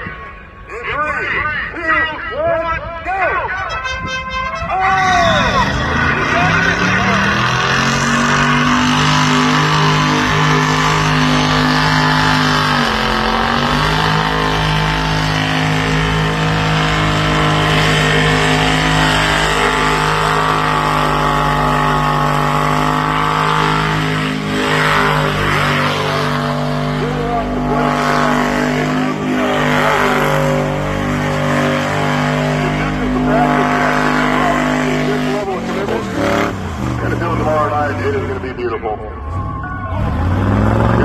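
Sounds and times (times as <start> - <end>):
car engine at high revs: 5.2 - 39.2, 39.8 - 41.0.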